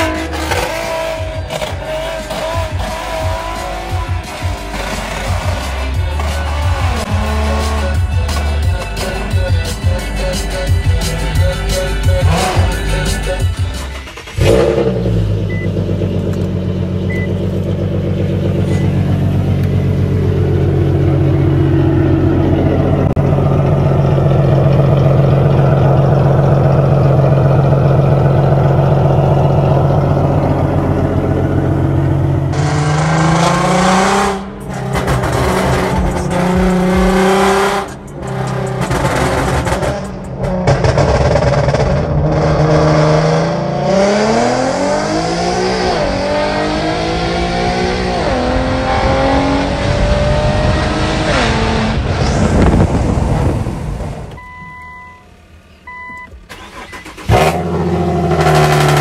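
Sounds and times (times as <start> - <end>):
car exhaust droning and revving: 0.0 - 59.0.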